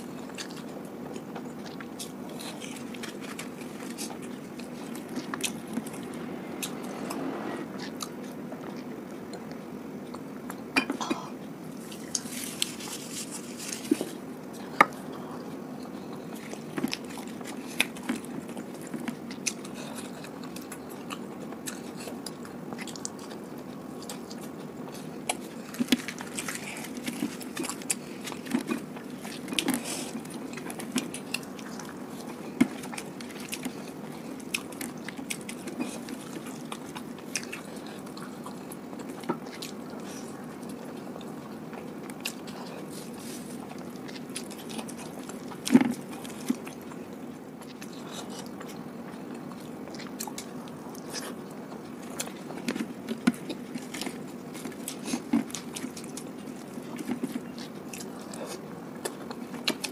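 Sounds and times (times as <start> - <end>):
chewing food: 0.0 - 59.9
steady low hum: 0.0 - 59.9.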